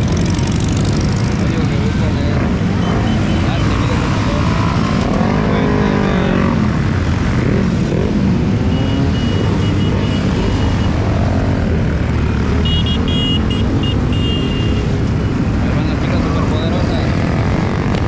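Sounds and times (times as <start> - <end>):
engines revving: 0.0 - 18.0
motorcycles riding past: 0.0 - 18.0.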